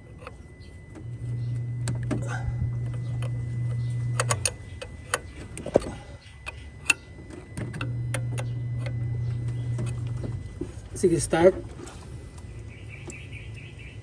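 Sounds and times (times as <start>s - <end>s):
starter motor cranking engine: 1.0s - 13.6s.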